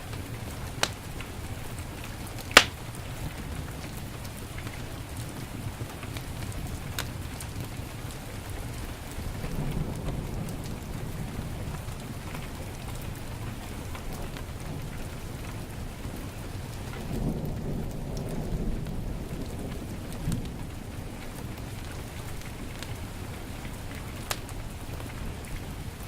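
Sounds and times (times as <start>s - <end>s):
heavy rain falling: 0.0s - 26.0s
wood fire crackling: 0.0s - 26.0s.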